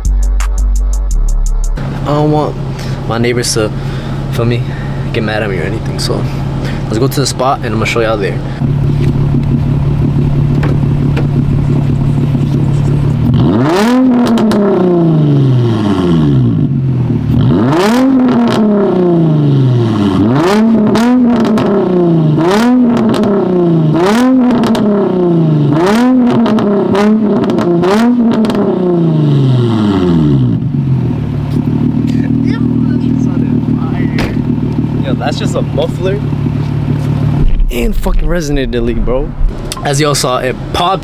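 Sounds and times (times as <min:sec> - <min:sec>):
car engine idling and revving: 0:00.0 - 0:41.0
exhaust pops and burbles: 0:01.7 - 0:41.0.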